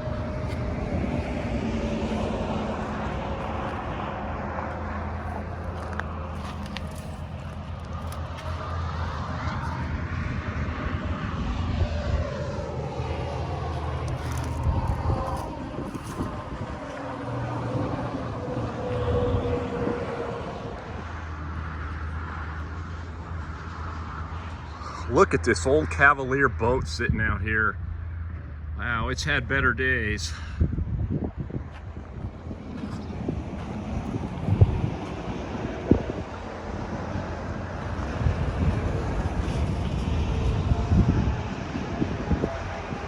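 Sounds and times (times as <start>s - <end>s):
distant engine drone passing by: 0.0s - 43.0s.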